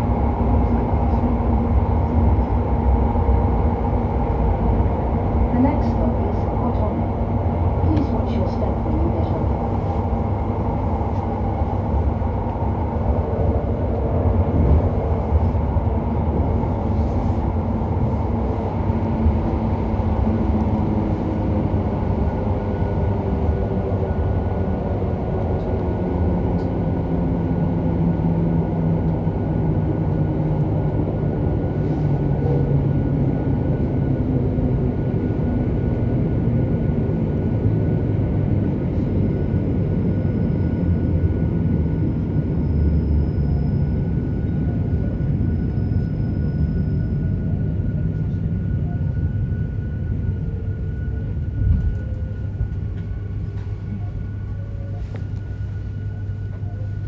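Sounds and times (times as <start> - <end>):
rail noise: 0.0 - 57.0.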